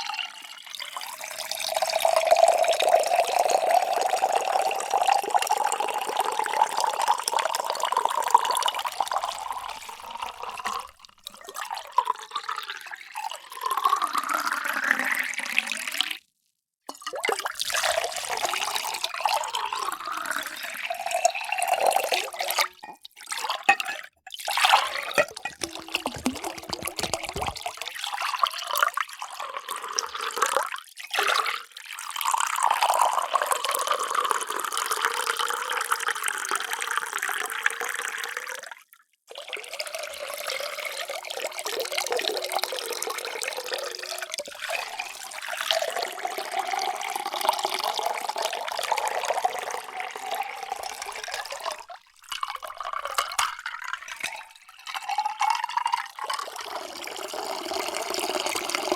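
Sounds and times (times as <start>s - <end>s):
water pouring into containers: 0.0s - 16.3s, 16.9s - 58.9s.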